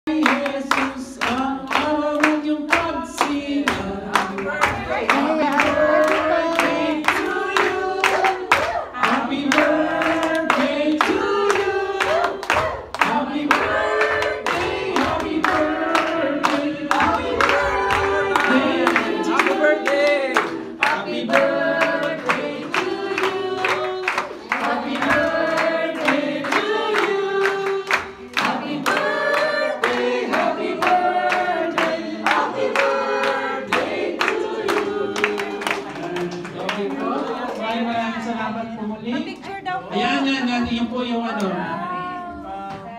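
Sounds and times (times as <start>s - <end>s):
group of people singing: 0.0s - 42.9s
people clapping along: 0.1s - 38.5s.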